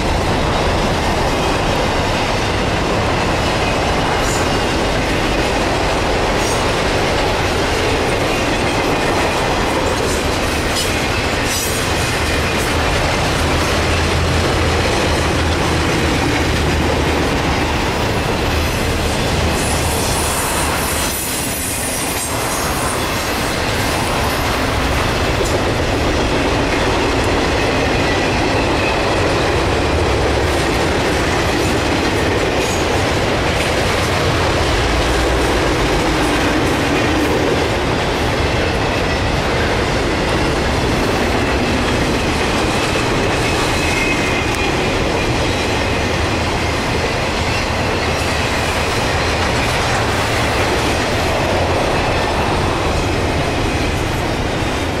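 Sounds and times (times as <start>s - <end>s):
freight train wheels on rail: 0.0s - 55.0s.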